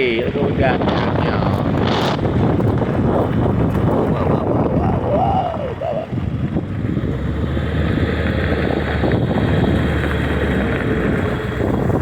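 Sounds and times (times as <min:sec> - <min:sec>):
low road rumble: 0:00.0 - 0:12.0
van engine running: 0:01.3 - 0:12.0.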